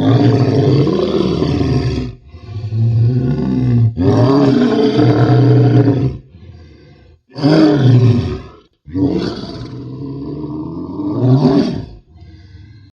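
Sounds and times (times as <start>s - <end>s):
monster roar: 0.0s - 12.9s.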